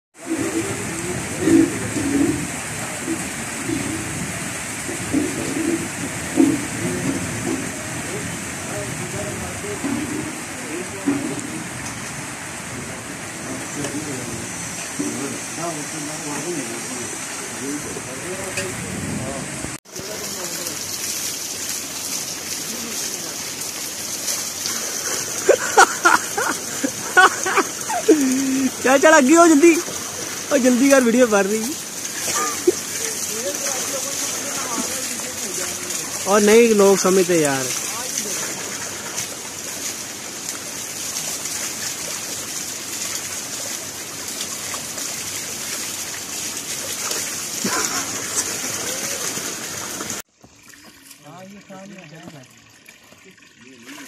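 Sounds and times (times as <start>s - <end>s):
water pouring and splashing on rocks: 0.2s - 54.0s.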